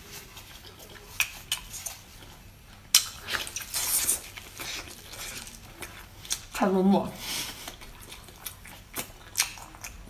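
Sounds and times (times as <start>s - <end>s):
wet mouth eating sounds: 0.0s - 10.0s.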